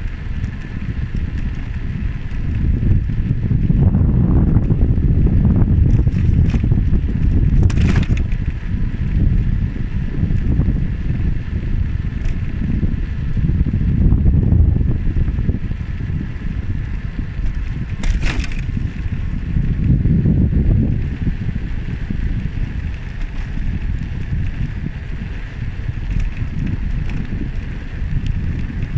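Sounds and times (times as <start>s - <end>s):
sharp rattles: 0.0s - 9.5s, 15.0s - 28.9s
wind buffeting microphone: 0.0s - 28.9s.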